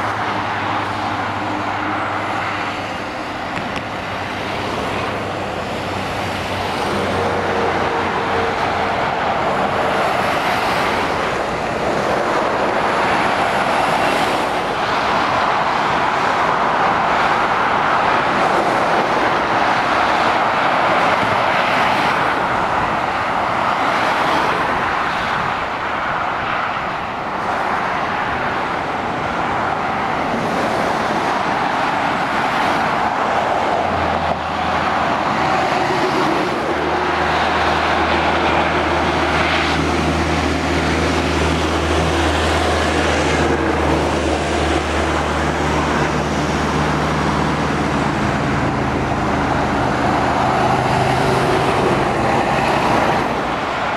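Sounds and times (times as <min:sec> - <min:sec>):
motorway traffic hiss: 0:00.0 - 0:53.9.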